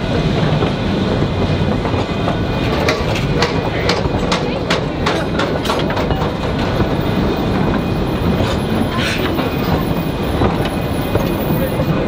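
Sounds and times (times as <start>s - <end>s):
train wheels rumbling and clicking: 0.0s - 12.0s.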